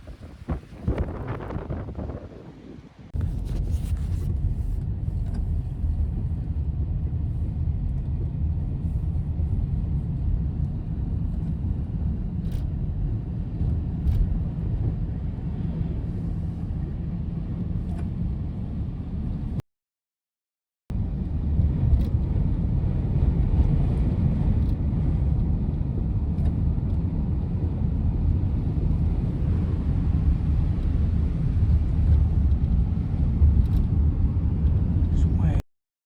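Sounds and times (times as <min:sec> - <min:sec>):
vehicle engine rumble: 0:00.0 - 0:19.6, 0:20.9 - 0:35.6.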